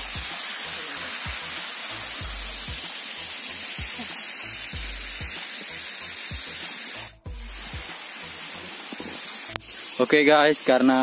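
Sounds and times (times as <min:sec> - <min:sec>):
waterfall splashing: 0:00.0 - 0:11.0.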